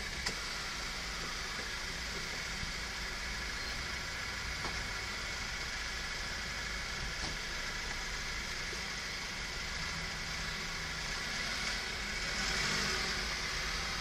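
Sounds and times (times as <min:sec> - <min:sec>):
outdoor rumble and hiss: 0:00.0 - 0:14.0.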